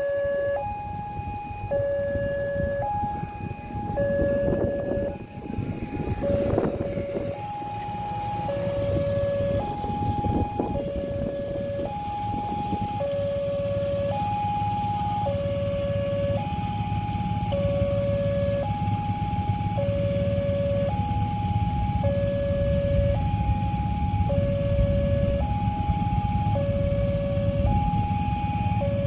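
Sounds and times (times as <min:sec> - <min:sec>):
motor scooter idling: 0:00.4 - 0:29.0.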